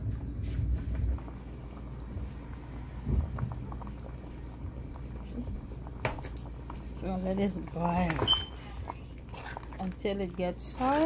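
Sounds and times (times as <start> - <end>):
low steady hum: 0.0 - 11.0
curry bubbling in a pot: 0.2 - 11.0.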